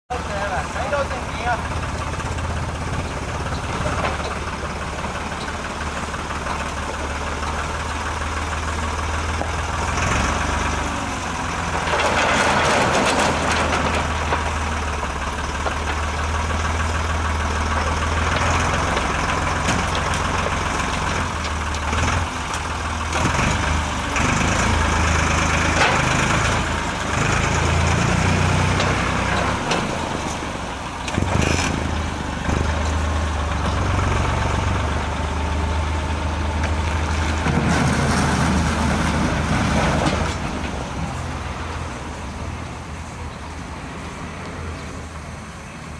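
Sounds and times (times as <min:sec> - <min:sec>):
tractor diesel engine running: 0:00.1 - 0:45.9.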